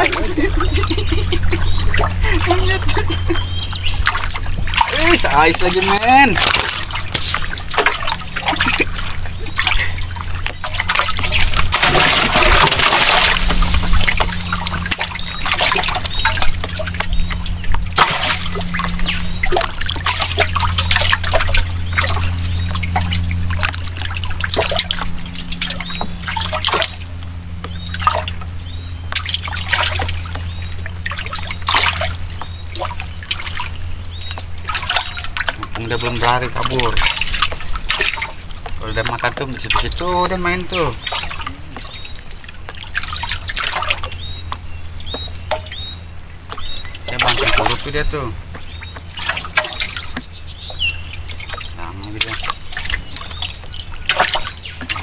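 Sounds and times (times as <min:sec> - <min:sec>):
steady low hum: 0:00.0 - 0:55.0
water splashing and dripping: 0:00.0 - 0:55.0.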